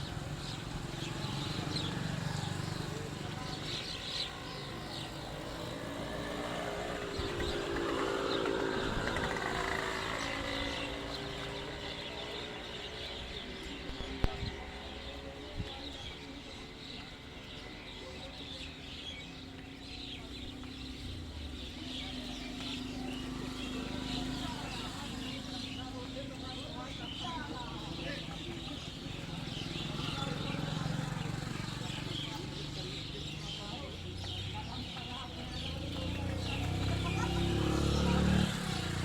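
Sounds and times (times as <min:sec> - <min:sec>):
vehicle engine passing: 0:00.0 - 0:15.4, 0:20.2 - 0:39.0
birds chirping: 0:00.0 - 0:39.0.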